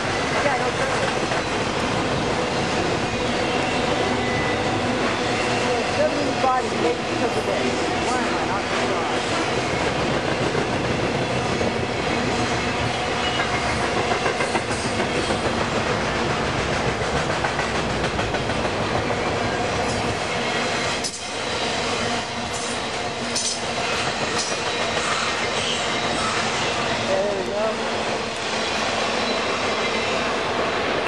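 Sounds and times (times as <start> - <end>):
train wheels clicking over rail joints: 0.0 - 31.0.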